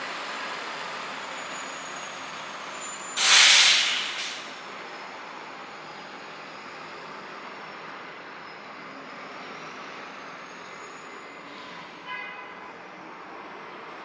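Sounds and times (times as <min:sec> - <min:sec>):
bus engines and traffic din: 0:00.0 - 0:14.0.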